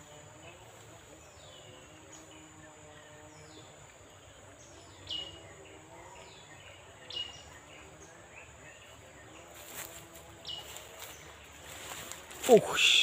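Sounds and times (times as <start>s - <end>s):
high insect hum: 0.0s - 13.0s.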